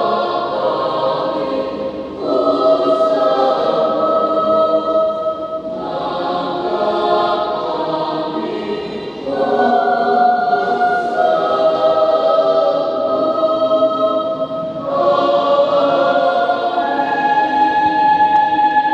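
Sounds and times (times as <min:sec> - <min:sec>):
choir singing held chords: 0:00.0 - 0:18.9.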